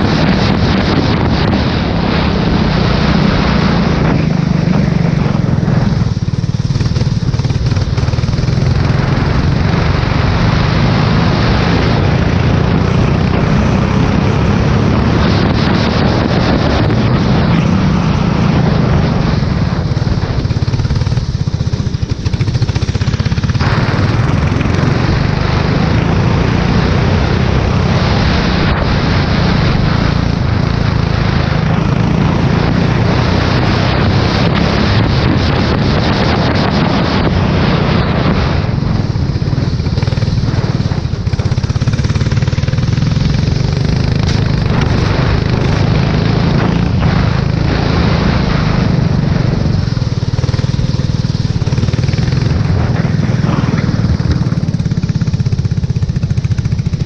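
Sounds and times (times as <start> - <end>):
race car engine at speed: 0.0 - 57.0
wind noise on microphone: 0.0 - 57.0.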